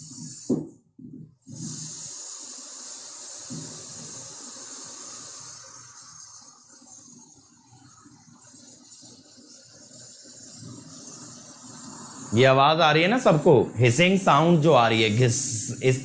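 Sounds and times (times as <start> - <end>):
power line corona hiss: 0.0 - 0.8, 1.4 - 16.0.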